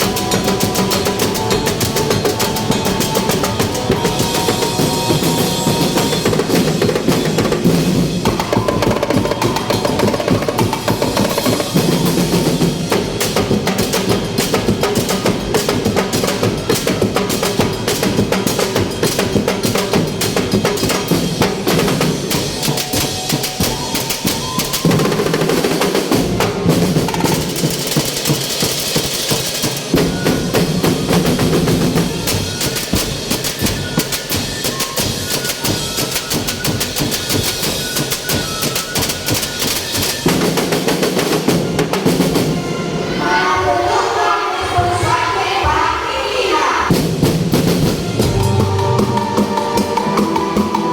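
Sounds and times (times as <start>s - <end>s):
snare drum rolls: 0.0s - 43.2s, 46.8s - 50.9s.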